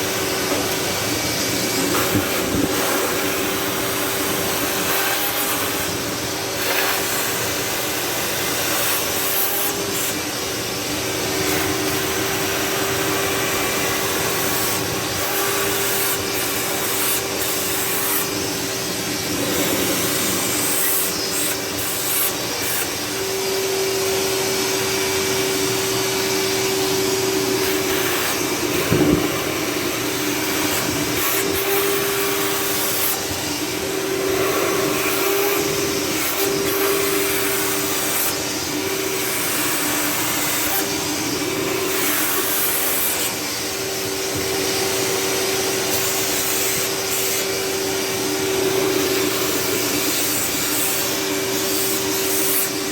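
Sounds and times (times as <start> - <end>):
shop vac running: 0.0 - 52.9.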